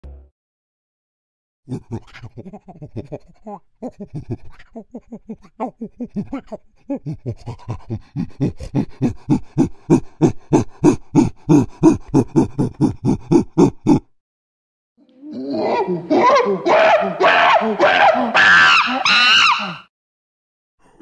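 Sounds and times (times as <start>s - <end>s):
chimpanzee pant-hooting: 1.7s - 14.1s, 15.2s - 19.9s.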